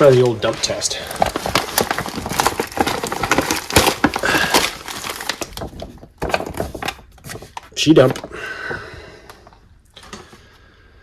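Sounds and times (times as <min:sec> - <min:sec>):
plastic packets crinkling and clattering: 0:00.0 - 0:10.3.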